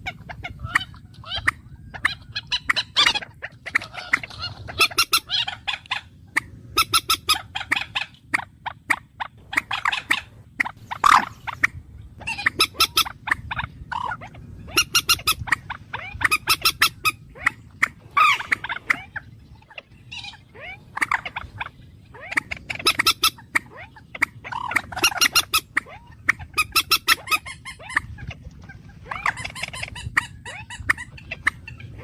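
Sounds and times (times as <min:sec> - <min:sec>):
bird calls in rapid bursts: 0:00.0 - 0:32.0
low steady background hum: 0:00.0 - 0:32.0.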